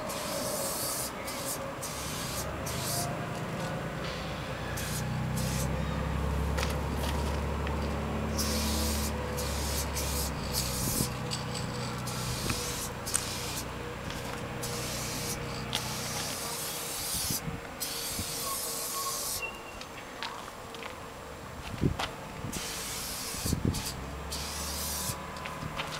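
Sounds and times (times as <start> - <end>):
spray-paint cans hissing: 0.0 - 5.8, 6.4 - 19.7, 22.5 - 25.9.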